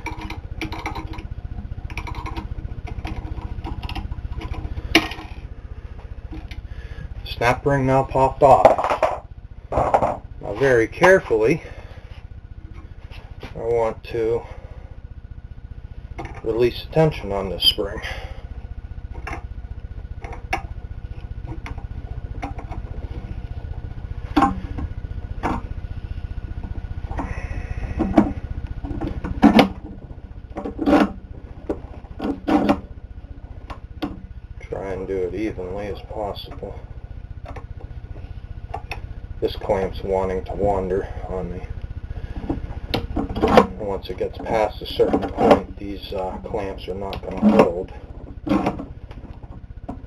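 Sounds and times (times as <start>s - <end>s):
low pulsing rumble: 0.0s - 50.0s.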